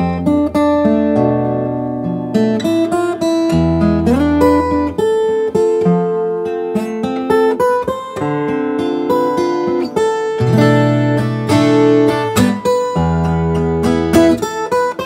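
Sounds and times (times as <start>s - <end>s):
fingerstyle acoustic guitar: 0.0s - 15.0s.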